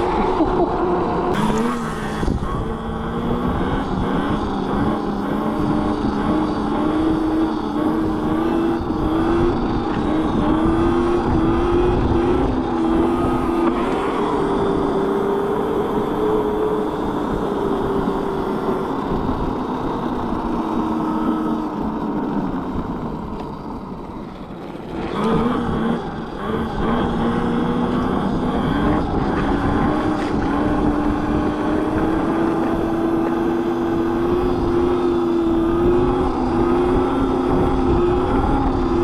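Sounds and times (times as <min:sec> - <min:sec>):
electric motor whining: 0:00.0 - 0:39.0
wind: 0:00.0 - 0:39.0.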